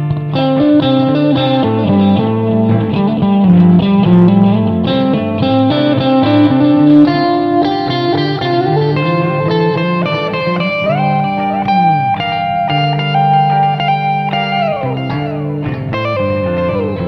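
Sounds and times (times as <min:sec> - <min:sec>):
electric guitar melody: 0:00.0 - 0:17.0.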